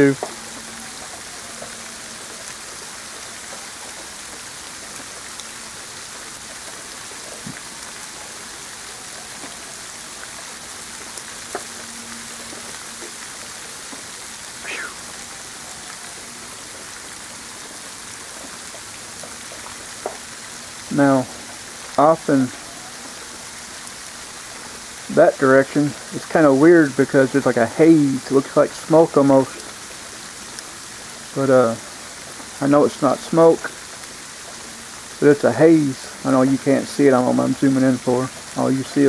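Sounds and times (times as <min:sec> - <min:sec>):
freezing rain hissing: 0:00.0 - 0:39.0.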